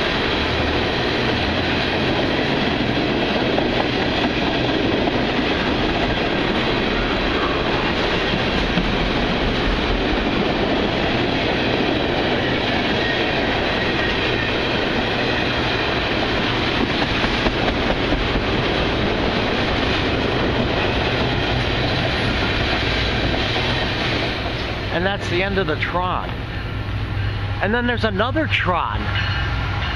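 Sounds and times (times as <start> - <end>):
freight train rumbling past: 0.0 - 29.9.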